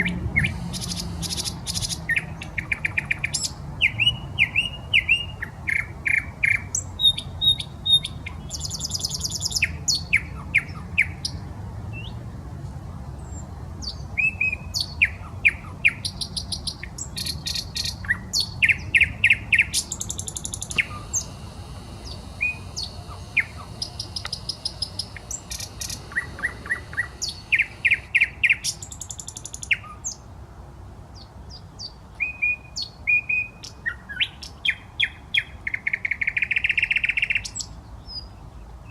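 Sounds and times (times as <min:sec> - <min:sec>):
nightingale singing: 0:00.0 - 0:11.4, 0:13.2 - 0:30.2, 0:31.2 - 0:38.9.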